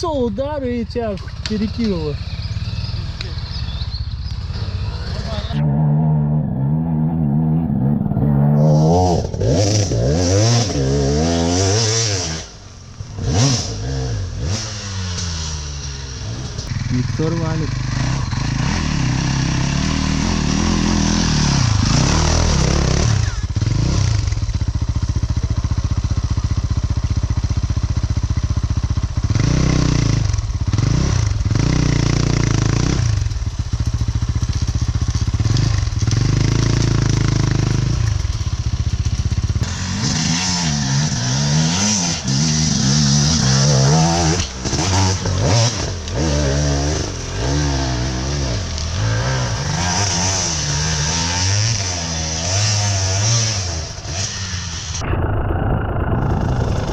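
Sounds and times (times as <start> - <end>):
dirt bike engine revving: 1.4 - 56.9.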